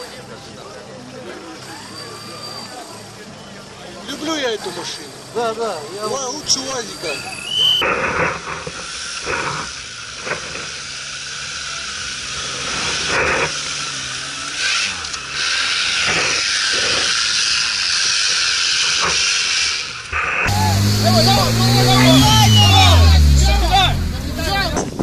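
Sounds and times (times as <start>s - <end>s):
off-road engines revving: 0.0s - 25.0s.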